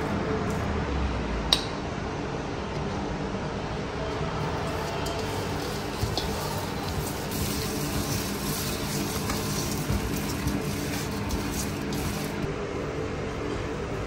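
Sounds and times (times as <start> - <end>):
machine hum: 2.0 - 14.0.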